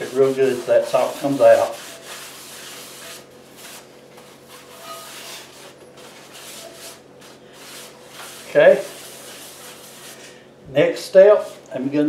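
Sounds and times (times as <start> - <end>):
paper towel scrubbing a skillet: 0.0 - 10.4, 11.2 - 11.7.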